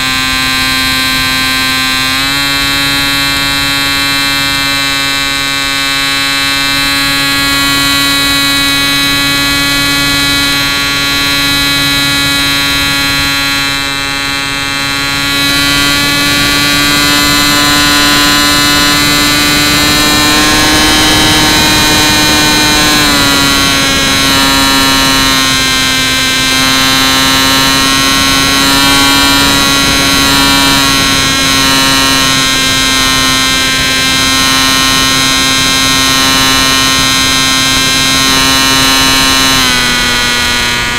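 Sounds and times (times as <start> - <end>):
electric motor and propeller whine: 0.0 - 40.9.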